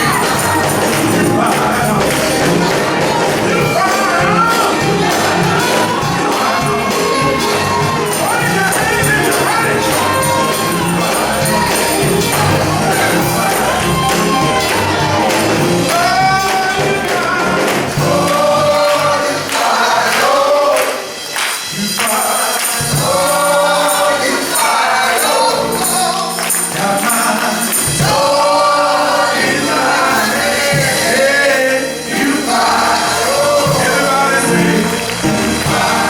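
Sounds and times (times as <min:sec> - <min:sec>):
band playing: 0:00.0 - 0:36.0
male choir singing: 0:00.0 - 0:36.0
tambourine: 0:00.0 - 0:36.0.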